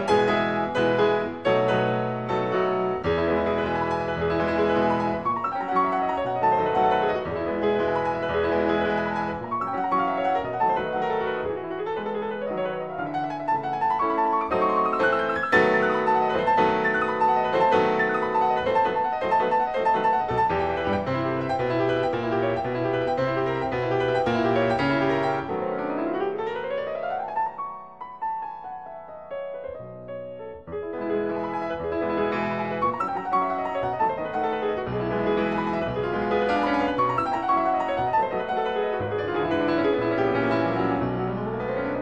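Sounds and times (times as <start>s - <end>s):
slow classical piano piece: 0.0s - 42.0s.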